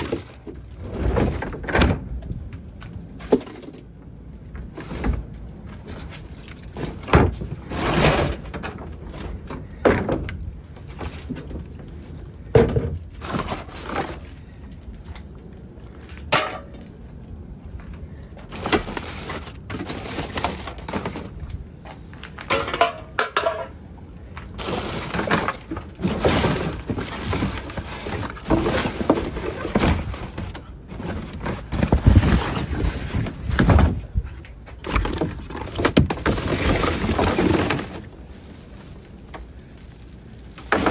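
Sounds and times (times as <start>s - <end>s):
rustling and crackling packaging: 0.0s - 1.6s, 3.1s - 16.4s, 18.0s - 22.6s, 24.3s - 40.9s.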